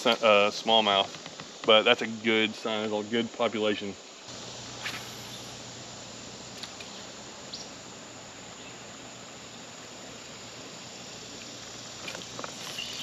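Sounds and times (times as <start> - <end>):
creek hiss: 0.0 - 13.0.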